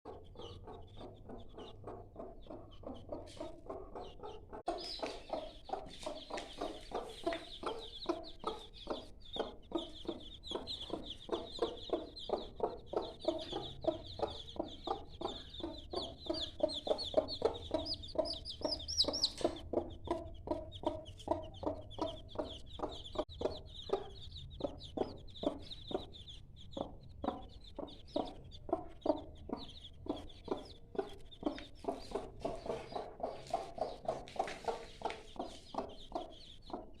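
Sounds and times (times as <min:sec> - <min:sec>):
chicks peeping: 0:00.1 - 0:37.0
hen clucking: 0:00.1 - 0:37.0.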